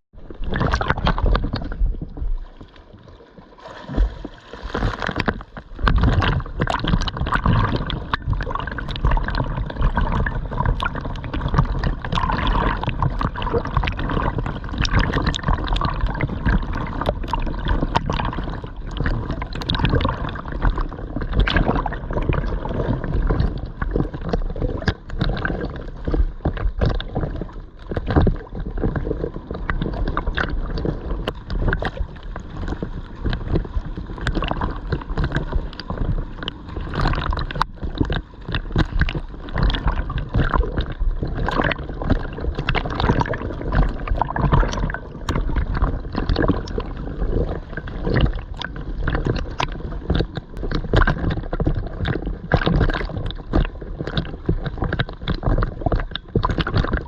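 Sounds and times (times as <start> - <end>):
water splashing from swimming: 0.1 - 57.0.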